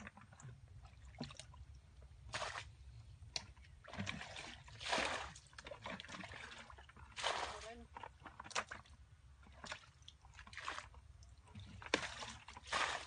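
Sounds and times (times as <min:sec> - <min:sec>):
muddy water sloshing and splashing: 0:00.0 - 0:13.0.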